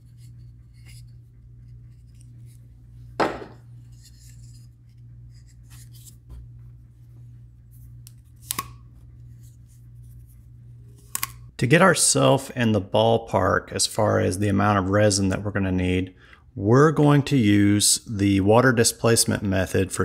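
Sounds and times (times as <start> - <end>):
low hum: 0.0 - 18.8.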